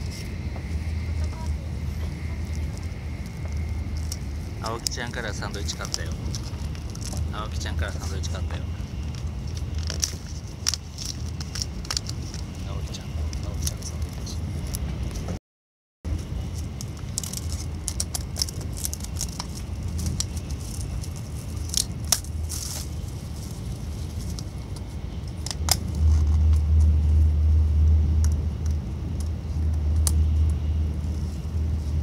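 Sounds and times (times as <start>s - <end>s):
crackles and clicks: 0.0s - 15.4s, 16.1s - 32.0s
train running rumble: 0.0s - 15.4s, 16.1s - 32.0s.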